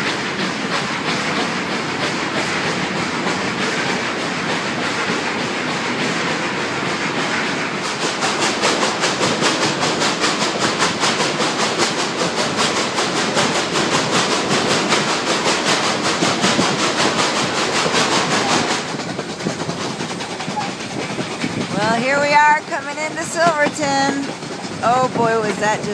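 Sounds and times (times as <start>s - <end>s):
steam train chuffing: 0.0s - 25.9s
train rumble: 0.0s - 25.9s.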